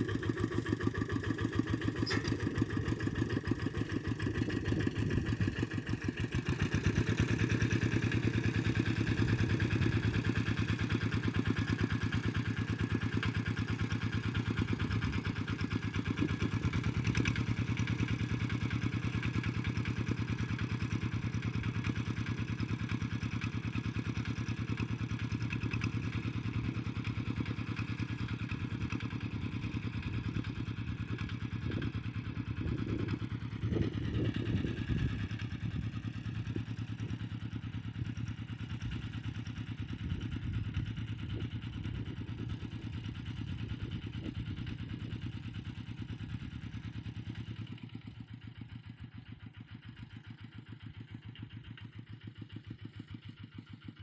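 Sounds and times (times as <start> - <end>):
tractor engine ploughing: 0.0 - 54.0.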